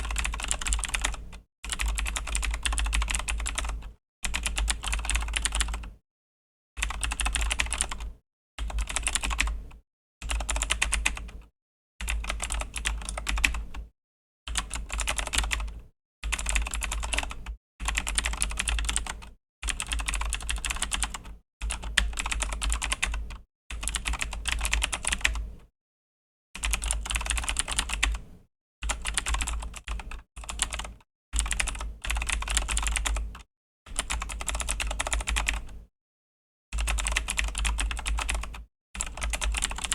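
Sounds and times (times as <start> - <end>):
mechanical keyboard clicky typing: 0.0 - 6.0, 6.8 - 9.6, 10.3 - 11.4, 12.0 - 13.8, 14.6 - 25.4, 26.6 - 28.2, 28.8 - 35.8, 36.8 - 39.9.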